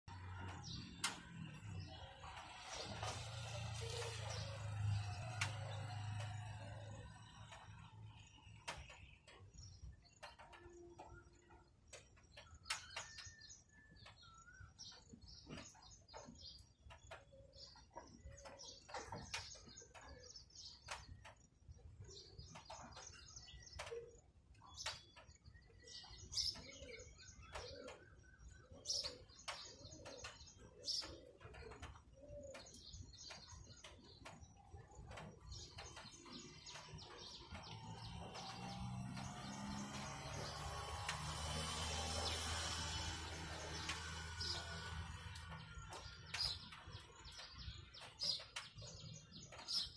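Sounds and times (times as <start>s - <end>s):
small birds chirping: 0.1s - 49.9s.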